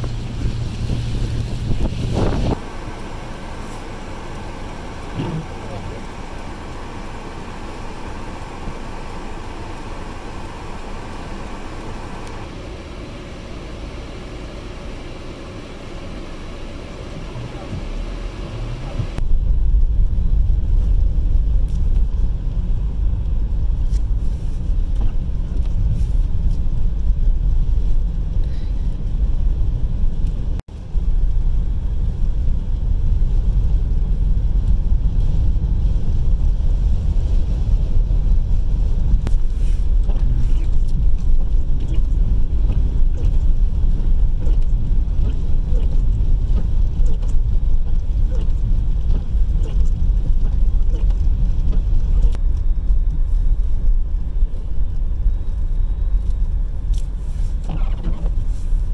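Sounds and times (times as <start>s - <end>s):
car cabin road rumble: 0.0s - 58.9s
strong wind buffeting car: 0.0s - 58.9s.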